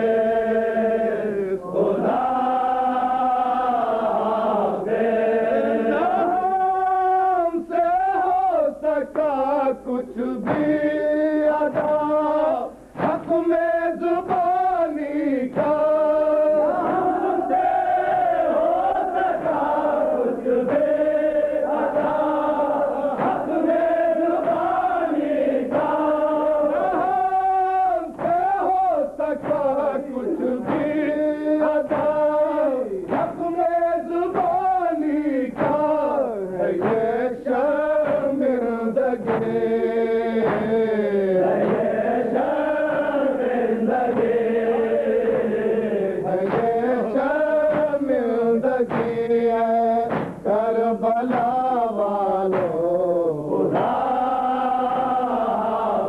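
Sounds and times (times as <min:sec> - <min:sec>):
men chanting a lament: 0:00.0 - 0:56.0
mourners chanting along: 0:00.0 - 0:56.0.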